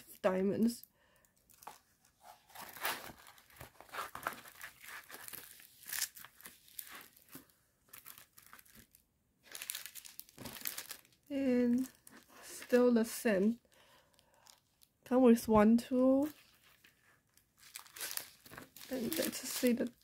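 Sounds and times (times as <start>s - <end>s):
paper and plastic film crinkling: 1.4s - 14.9s, 16.1s - 20.0s.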